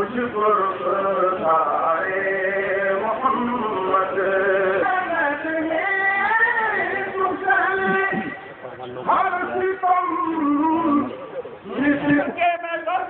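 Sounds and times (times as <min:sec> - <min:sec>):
person singing with wavering notes: 0:00.0 - 0:08.5, 0:09.2 - 0:13.0.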